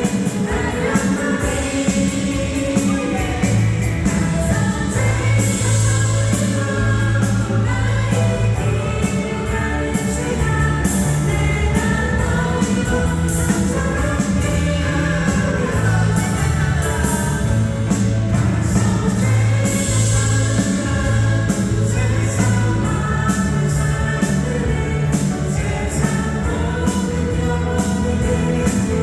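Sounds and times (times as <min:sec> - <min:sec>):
band accompaniment: 0:00.0 - 0:29.0
worship song singing: 0:00.0 - 0:29.0.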